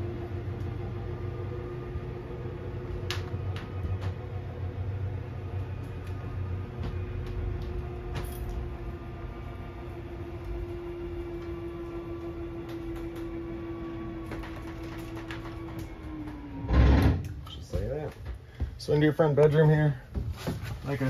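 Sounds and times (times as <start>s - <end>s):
electric motors humming: 0.0s - 18.0s.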